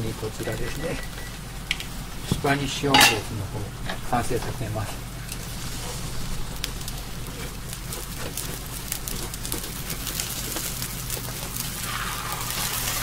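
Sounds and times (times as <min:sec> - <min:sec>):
egg sizzling in frying pan: 0:00.0 - 0:13.0.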